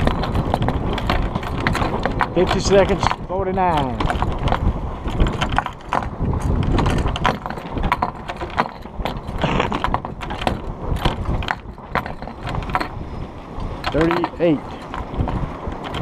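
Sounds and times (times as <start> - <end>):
rigging and sails clattering: 0.0 - 16.0.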